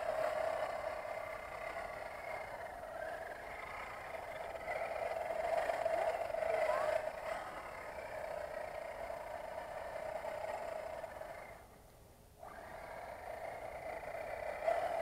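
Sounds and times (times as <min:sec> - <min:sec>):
toy truck motor whining: 0:00.0 - 0:11.8, 0:12.4 - 0:15.0.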